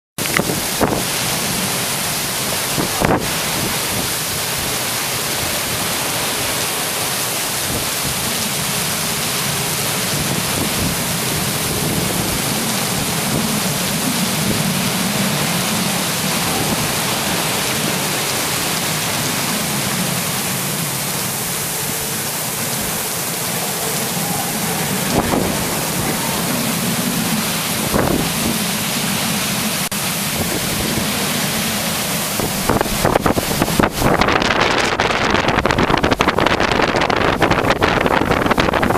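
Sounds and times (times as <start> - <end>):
rain pouring down: 0.2 - 38.9.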